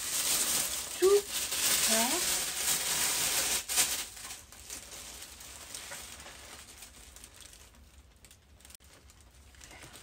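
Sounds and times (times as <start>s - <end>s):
gift packaging rustling: 0.0s - 10.0s.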